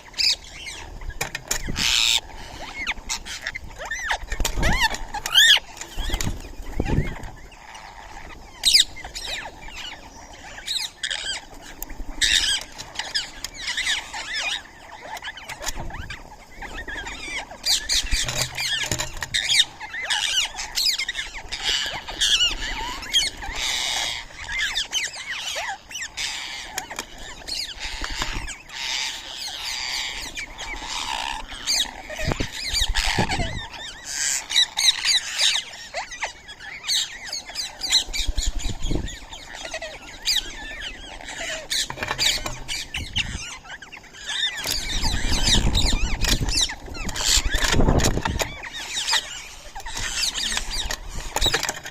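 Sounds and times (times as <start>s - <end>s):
birds chirping and squeaking: 0.0s - 51.9s.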